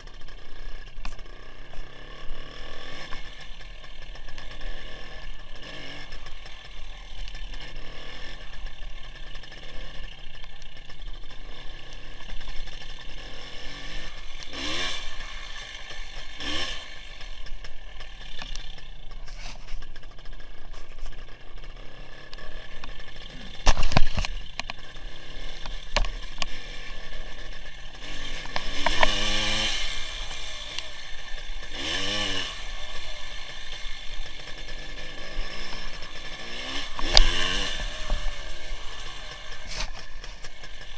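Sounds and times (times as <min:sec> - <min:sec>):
motorcycle two-stroke engine running: 0:00.0 - 0:40.9.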